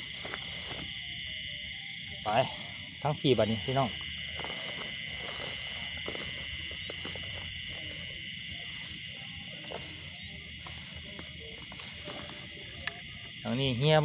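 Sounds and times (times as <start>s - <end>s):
footsteps through grass: 0.0s - 2.2s, 3.3s - 14.0s
insects trilling: 0.0s - 14.0s.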